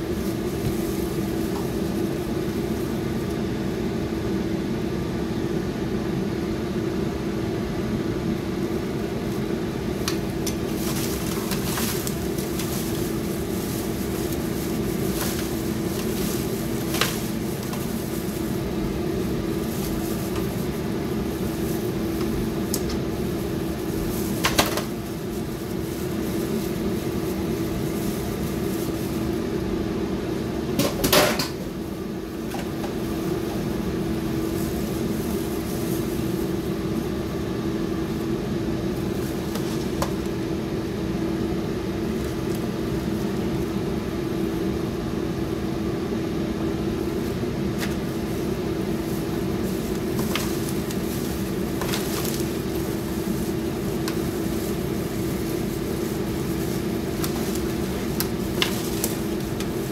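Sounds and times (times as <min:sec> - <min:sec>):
foil crinkling: 0:00.0 - 0:03.4, 0:09.0 - 0:29.6, 0:30.7 - 0:40.4, 0:41.9 - 0:44.9, 0:46.9 - 0:59.9
kitchen appliance humming: 0:00.0 - 0:59.9.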